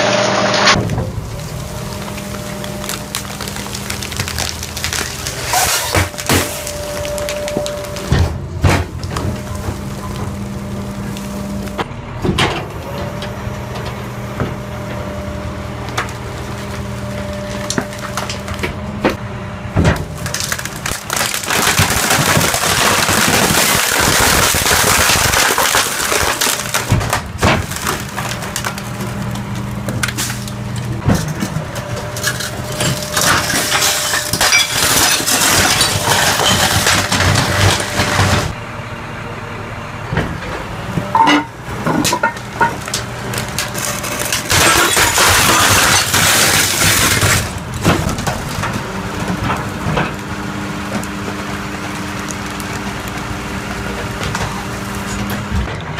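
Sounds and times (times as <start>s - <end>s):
crackling and crunching of load: 0.0s - 55.9s.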